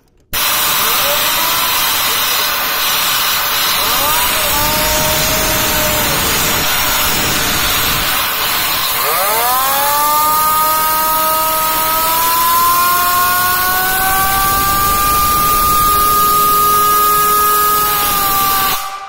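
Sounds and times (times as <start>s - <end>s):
turbo compressor wheel whine: 0.2s - 19.0s
compressed air hissing: 0.3s - 19.0s.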